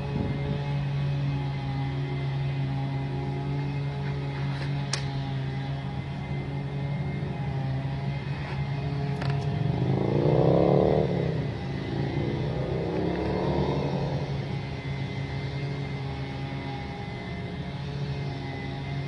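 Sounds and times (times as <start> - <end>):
leaf blower engine drone: 0.0 - 19.0.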